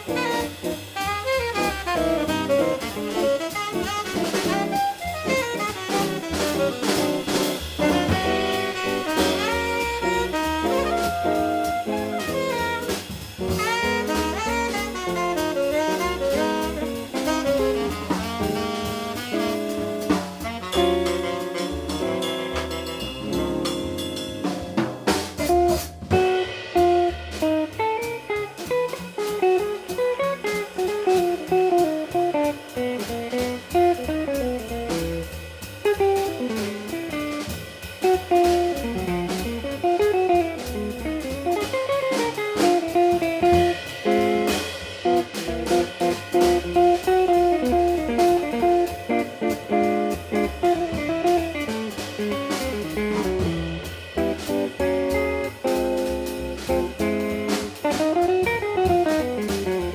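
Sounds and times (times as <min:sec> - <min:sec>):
drum kit with cymbals: 0:00.0 - 0:59.9
upright bass: 0:00.0 - 0:59.9.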